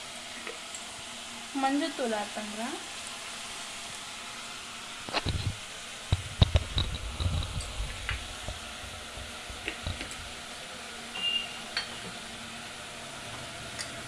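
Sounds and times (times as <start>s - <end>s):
chicken sizzling in pan: 0.0s - 14.0s.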